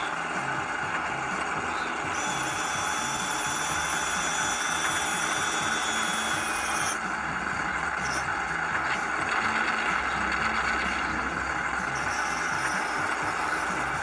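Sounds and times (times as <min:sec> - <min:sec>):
engine sound effect idling hum: 0:00.0 - 0:14.0
small electric motor whining: 0:00.0 - 0:14.0.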